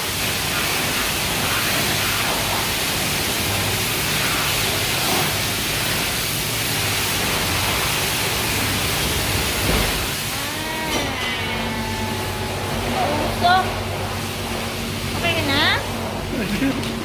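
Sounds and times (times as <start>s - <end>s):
high-pressure water spray hissing: 0.0s - 17.0s.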